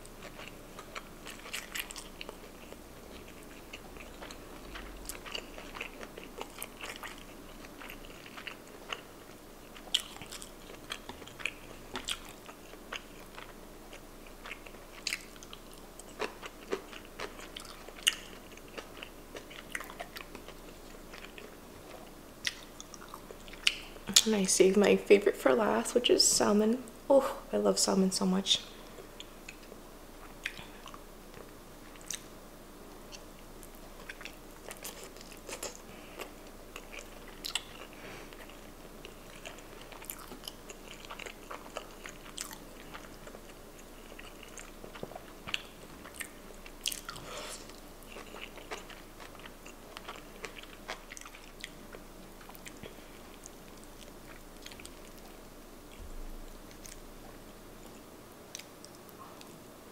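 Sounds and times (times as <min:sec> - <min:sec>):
wet chewing clicks and smacks: 0:00.2 - 0:09.1, 0:09.7 - 0:21.6, 0:22.4 - 0:24.3, 0:29.1 - 0:32.3, 0:33.1 - 0:56.0, 0:57.8 - 0:59.5.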